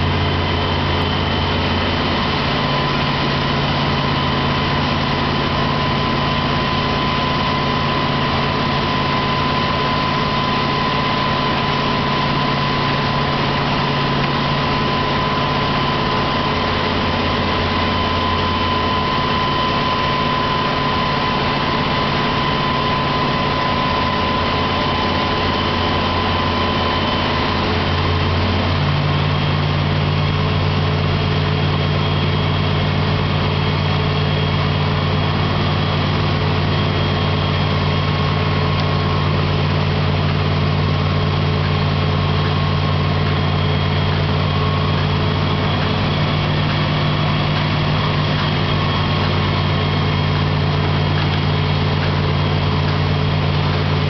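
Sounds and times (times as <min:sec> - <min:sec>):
heavy machinery diesel engines: 0:00.0 - 0:54.0
high whine: 0:00.0 - 0:54.0.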